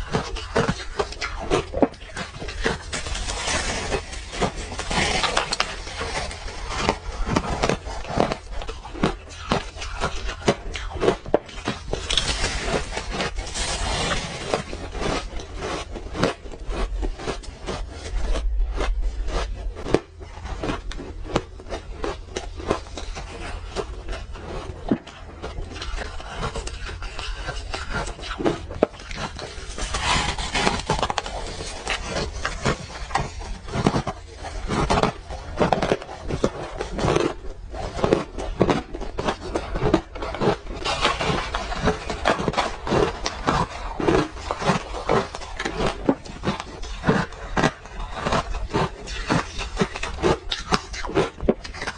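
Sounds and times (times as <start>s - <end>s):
crunching ice while chewing: 0.0s - 51.9s.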